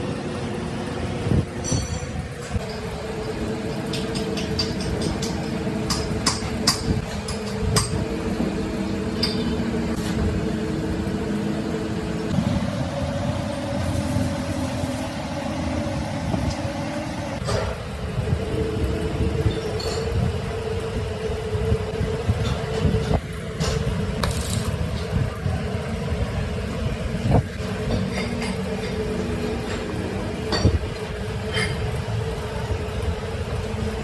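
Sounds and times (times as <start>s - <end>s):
workshop machinery humming: 0.0s - 34.0s.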